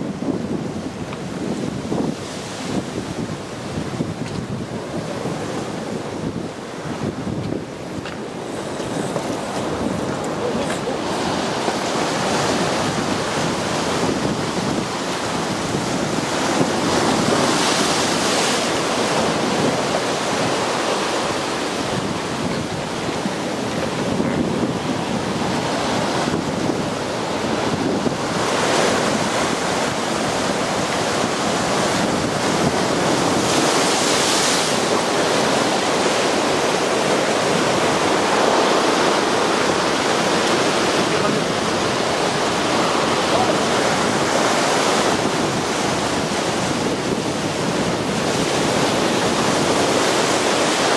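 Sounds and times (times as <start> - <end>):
ocean waves breaking on rocks: 0.0 - 50.9.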